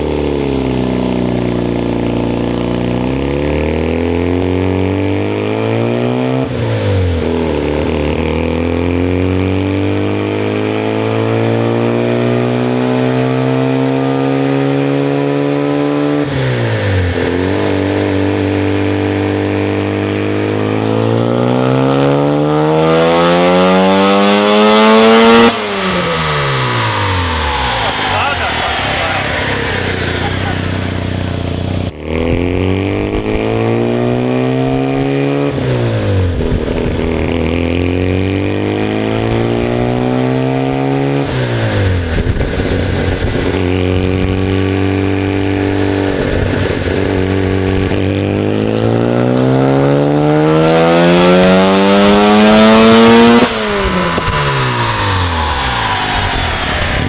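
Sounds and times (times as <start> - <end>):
rotary engine revving: 0.0 - 57.0.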